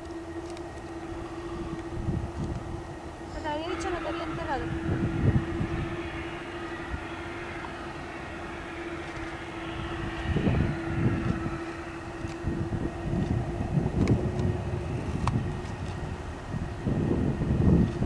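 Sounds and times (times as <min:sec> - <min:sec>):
distant jet airliner whine: 0:00.0 - 0:18.0
wind buffeting microphone: 0:00.0 - 0:18.0.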